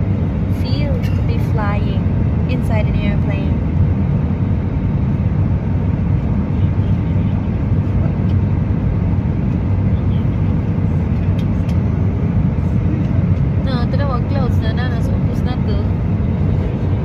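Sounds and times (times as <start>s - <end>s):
airliner cabin engine hum: 0.0s - 17.0s.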